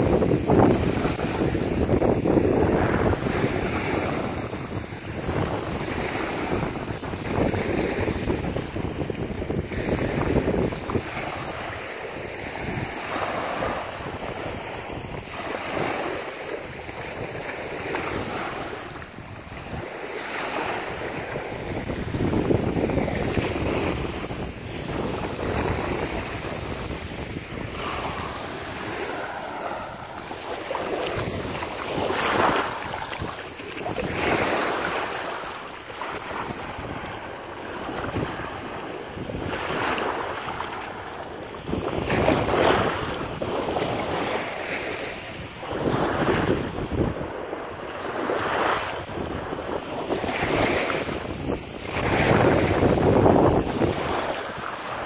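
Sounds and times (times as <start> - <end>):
small waves breaking on shore: 0.0 - 55.0
wind buffeting microphone: 0.0 - 55.0.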